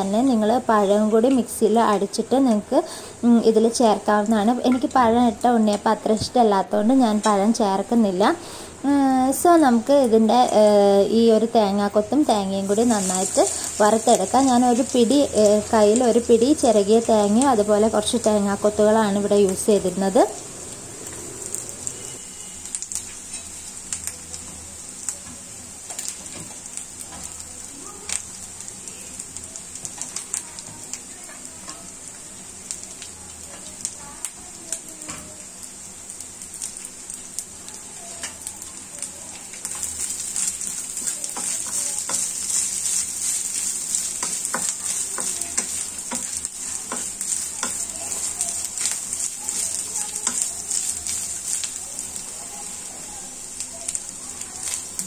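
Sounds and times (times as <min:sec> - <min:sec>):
coconut sizzling in ghee: 0:00.0 - 0:55.0.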